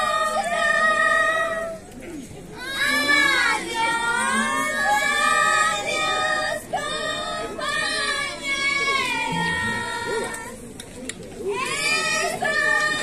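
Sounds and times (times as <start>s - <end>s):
women singing in shrill voices: 0.0s - 1.9s, 2.6s - 10.7s, 11.5s - 13.0s.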